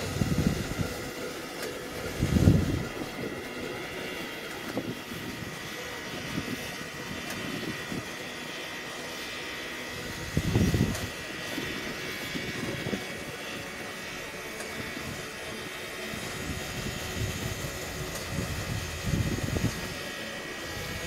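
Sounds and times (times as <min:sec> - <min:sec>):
faint high whine: 0:00.0 - 0:21.0
steam locomotive hiss and rumble: 0:00.0 - 0:21.0.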